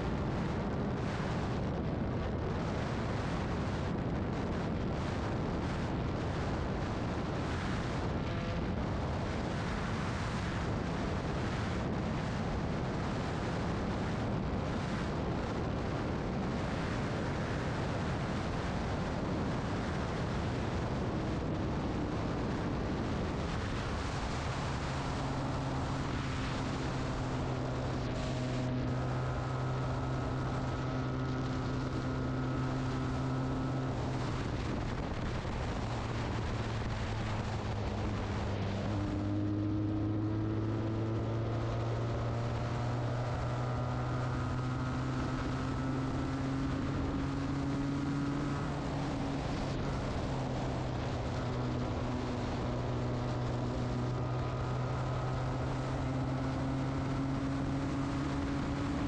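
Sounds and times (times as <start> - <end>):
motorcycle engine droning: 0.0 - 59.0
wind noise on microphone: 0.0 - 59.0.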